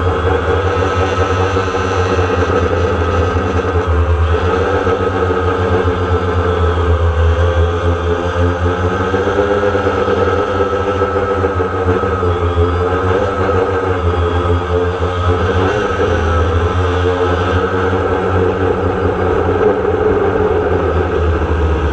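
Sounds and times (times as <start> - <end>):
drone propellers buzzing: 0.0 - 21.9.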